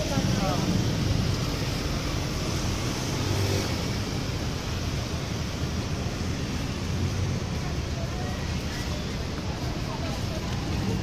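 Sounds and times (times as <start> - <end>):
steady rushing noise with low rumble: 0.0 - 11.0.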